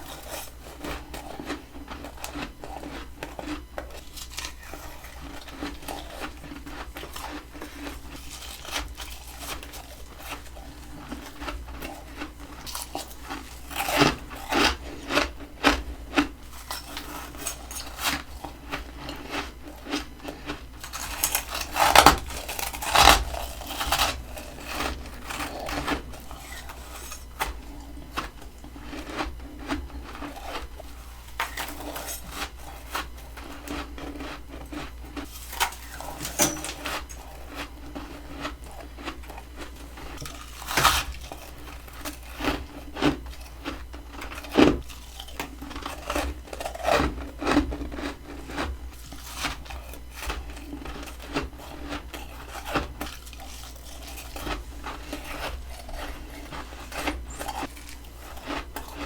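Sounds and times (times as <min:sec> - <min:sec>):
crunching frost while chewing: 0:00.0 - 0:59.0.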